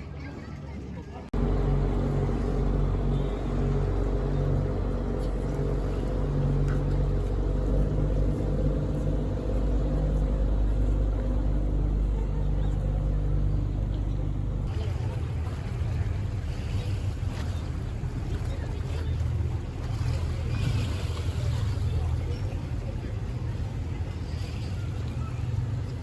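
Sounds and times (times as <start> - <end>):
large engine droning: 0.0 - 26.0.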